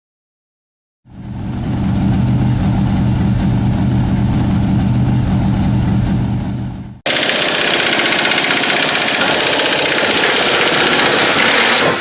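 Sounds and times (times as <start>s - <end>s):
engine idling: 1.1s - 12.0s.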